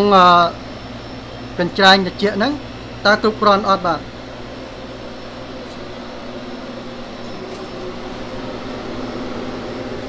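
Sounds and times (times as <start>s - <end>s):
electric motor hum: 0.0s - 10.0s
fans whirring: 0.0s - 10.0s.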